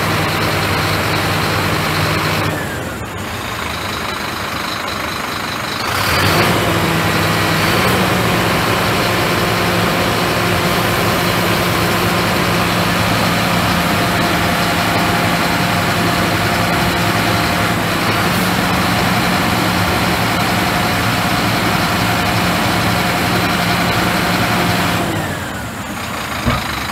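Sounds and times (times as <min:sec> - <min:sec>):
diesel truck engine revving: 0:00.0 - 0:26.9.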